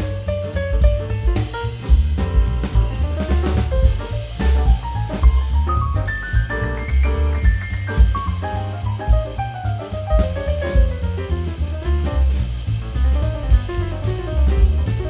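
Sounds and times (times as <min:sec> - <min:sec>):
jazzy music with drum kit: 0:00.0 - 0:15.0.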